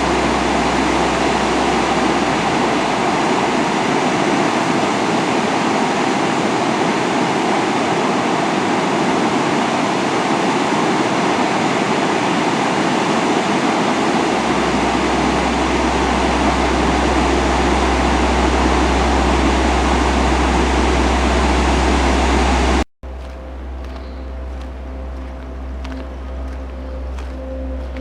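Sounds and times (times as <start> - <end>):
rush of falling water: 0.0 - 22.8.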